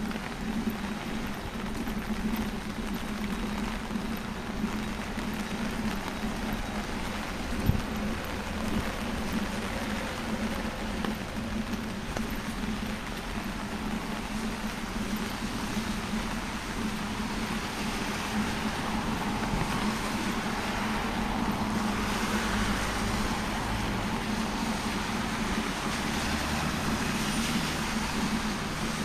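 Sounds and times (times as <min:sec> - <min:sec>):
tyre hiss on wet road: 0:04.0 - 0:12.2, 0:12.8 - 0:29.0.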